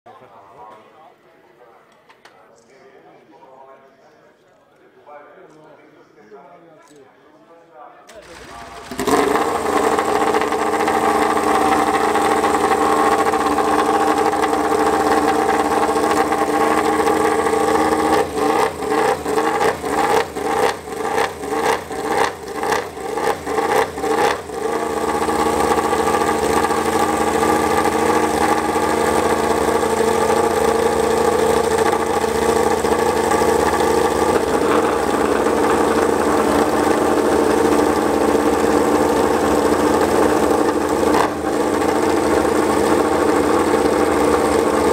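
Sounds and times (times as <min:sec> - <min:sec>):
motorcycle engine idling and revving: 0:08.2 - 0:44.9.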